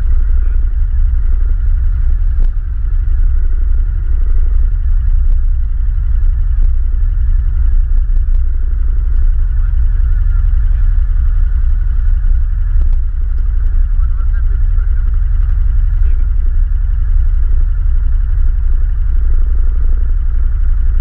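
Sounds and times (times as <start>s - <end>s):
atv engine rumbling: 0.0s - 21.0s.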